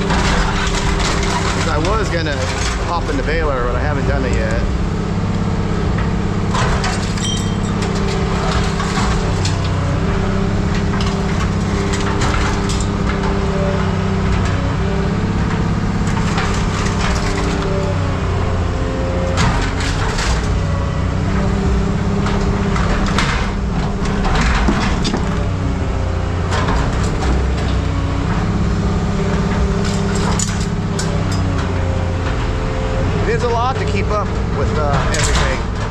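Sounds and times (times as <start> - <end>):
heavy machinery engine: 0.0 - 35.9
scrap metal crunching: 0.0 - 35.9.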